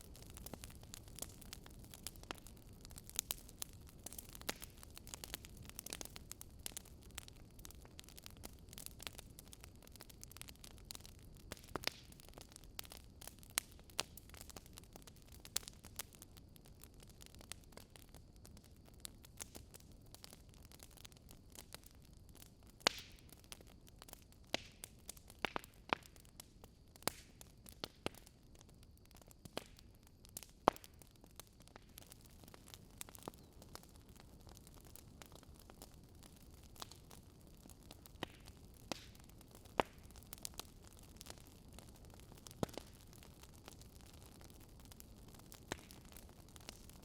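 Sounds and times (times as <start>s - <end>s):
logs crackling and popping in fire: 0.0s - 47.0s
low steady fire hiss: 0.0s - 47.0s.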